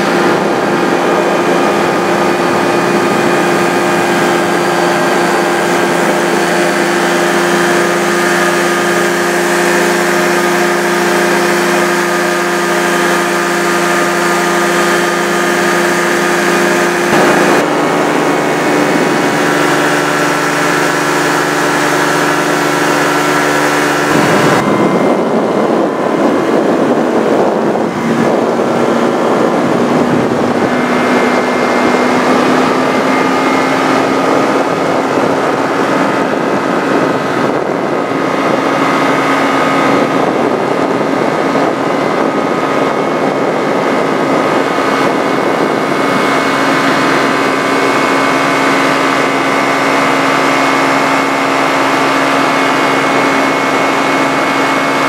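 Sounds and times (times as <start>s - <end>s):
engine and propeller drone: 0.0s - 55.0s.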